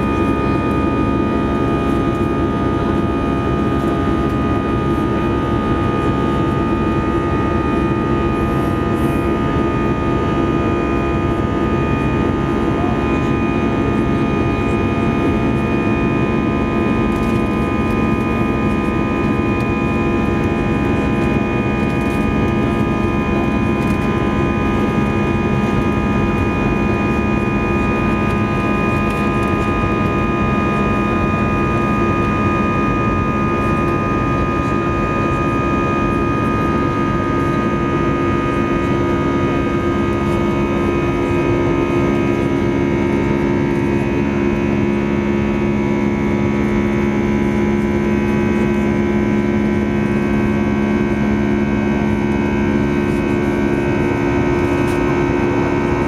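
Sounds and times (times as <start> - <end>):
jet engine roar in cabin: 0.0 - 56.0
thin whine: 0.0 - 56.0.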